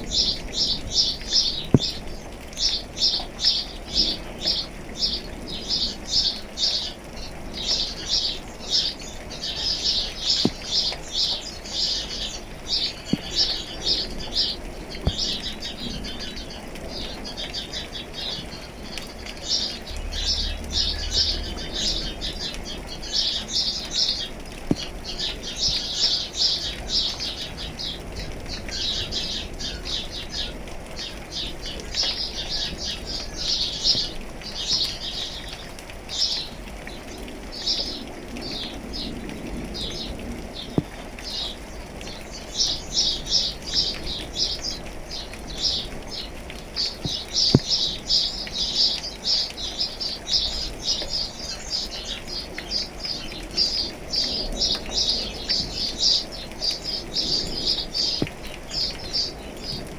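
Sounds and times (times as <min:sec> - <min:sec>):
rain hiss: 0:00.0 - 0:59.9
small songbirds chirping: 0:00.0 - 0:59.9.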